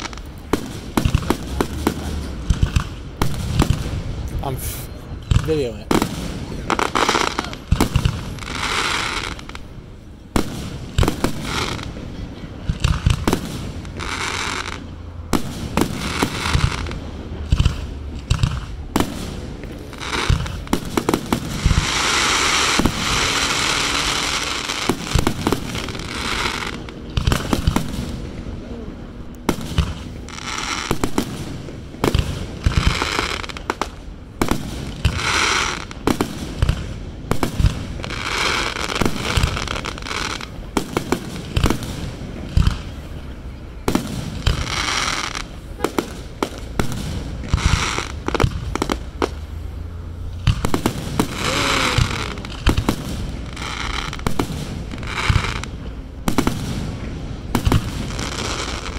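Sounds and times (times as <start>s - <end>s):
fireworks bursting with sharp bangs: 0.0s - 58.9s
fireworks hissing: 0.0s - 58.9s.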